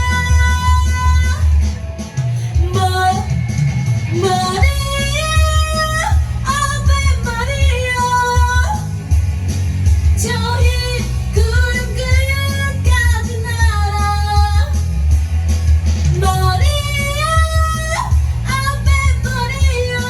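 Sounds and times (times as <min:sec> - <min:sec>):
backing track with pulsing bass: 0:00.0 - 0:20.0
woman singing karaoke: 0:00.0 - 0:20.0.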